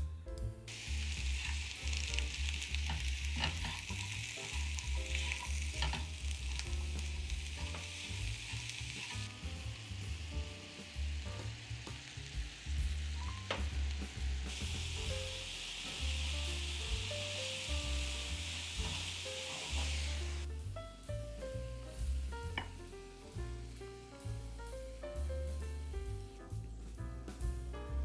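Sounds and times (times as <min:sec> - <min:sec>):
soft background music: 0:00.0 - 0:28.0
food sizzling in a frying pan: 0:00.7 - 0:26.7.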